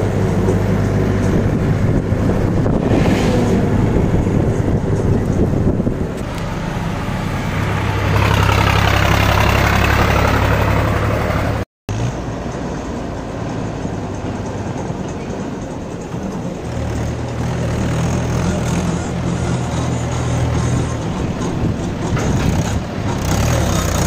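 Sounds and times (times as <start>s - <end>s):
diesel tractors running under load: 0.0s - 24.0s.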